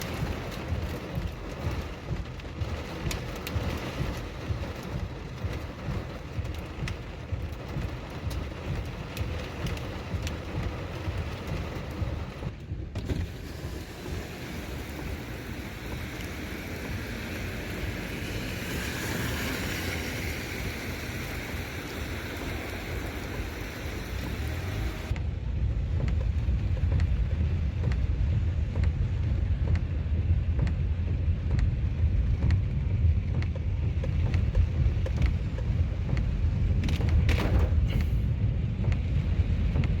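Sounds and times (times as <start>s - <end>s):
deep rumbling noise: 0.0s - 40.0s
heavy rain: 0.0s - 40.0s.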